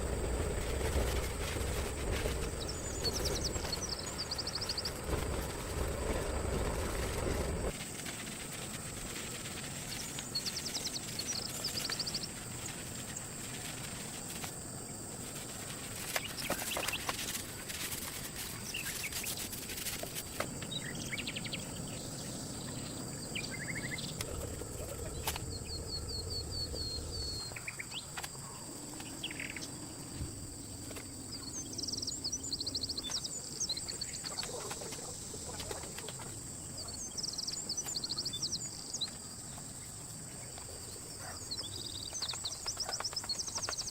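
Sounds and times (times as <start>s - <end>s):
small birds chirping: 0.0s - 7.7s, 9.7s - 14.1s, 18.2s - 43.9s.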